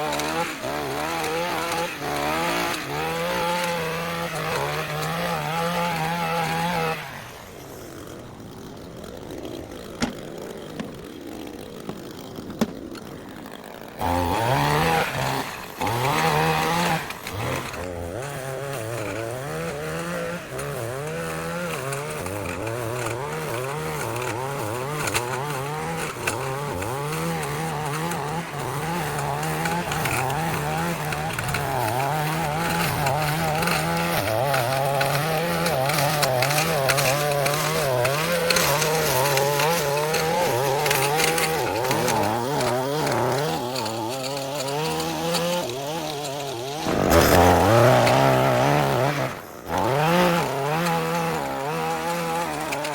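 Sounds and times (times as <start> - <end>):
small gasoline engine running: 0.0 - 52.9.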